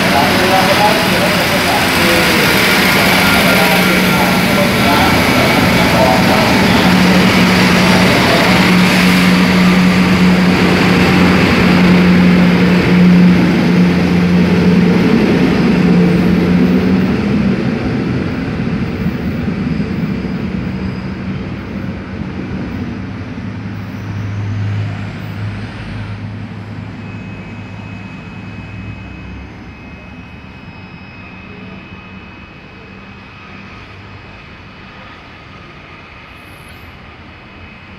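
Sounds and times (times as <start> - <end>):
train rumbling past: 0.0 - 37.9.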